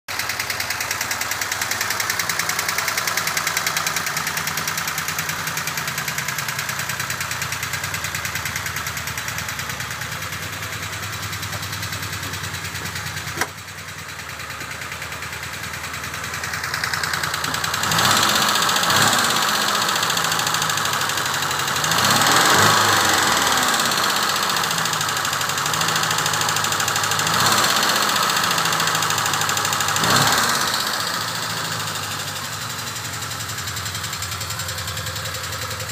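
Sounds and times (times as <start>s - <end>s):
car engine idling and revving: 0.1s - 35.9s.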